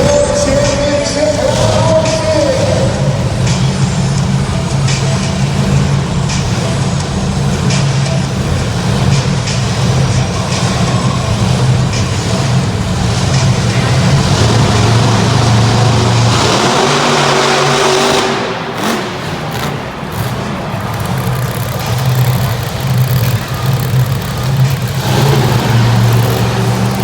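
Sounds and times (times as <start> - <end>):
truck engines revving high: 0.0 - 27.0.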